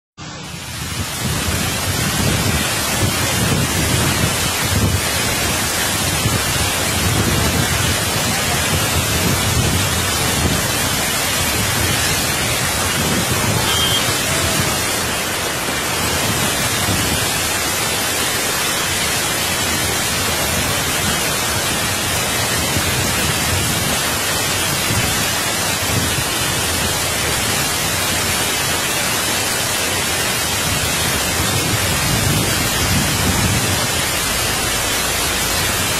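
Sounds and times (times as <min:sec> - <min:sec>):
floodwater rushing: 0:00.2 - 0:35.9.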